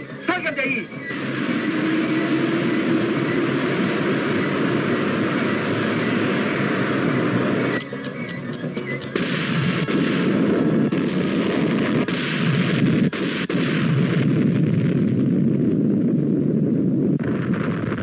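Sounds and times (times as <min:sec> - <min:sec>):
explosion blast and roar: 0:00.3 - 0:18.0.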